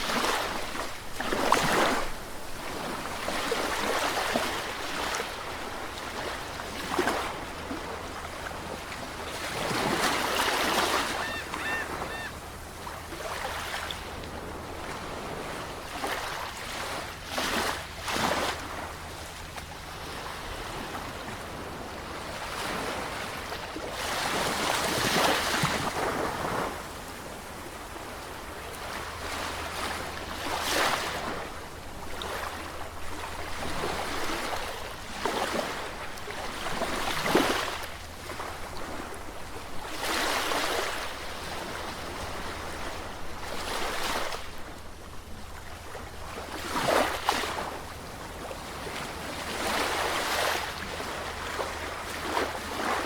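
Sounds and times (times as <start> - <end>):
low rumble of sea: 0.0 - 53.0
sea waves breaking on shore: 0.0 - 53.0.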